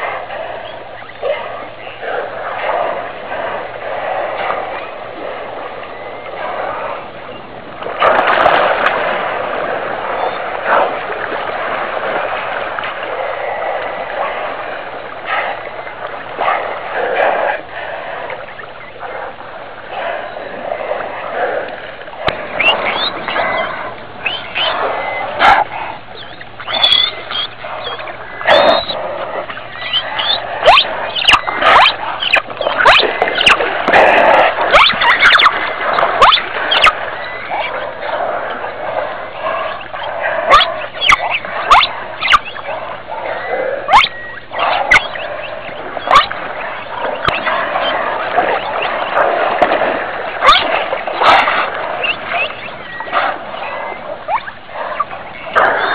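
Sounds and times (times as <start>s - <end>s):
water splashing and sloshing: 0.0s - 55.9s
whale whistles and clicks: 0.0s - 55.9s.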